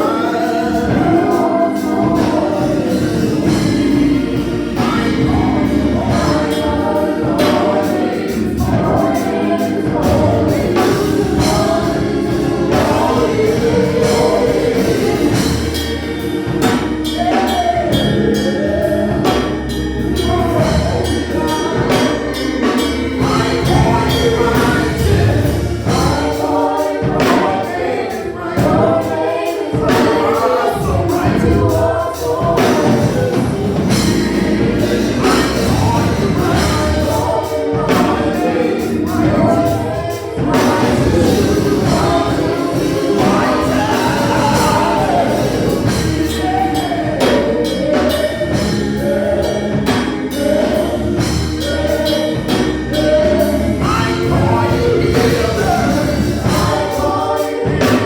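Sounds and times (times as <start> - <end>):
gospel choir singing: 0.0 - 58.0
instrumental backing with beat: 0.0 - 58.0.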